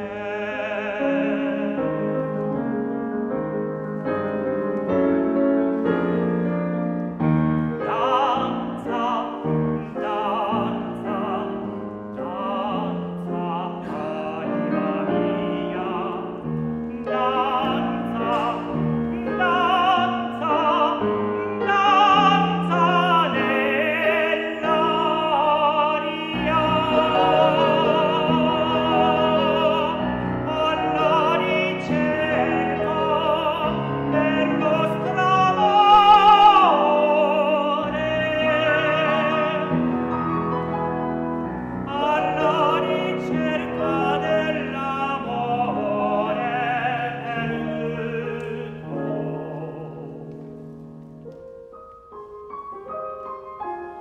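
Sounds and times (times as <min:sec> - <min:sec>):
man singing operatic song: 0:00.0 - 0:02.8, 0:07.7 - 0:50.8
grand piano accompaniment: 0:00.0 - 0:54.0.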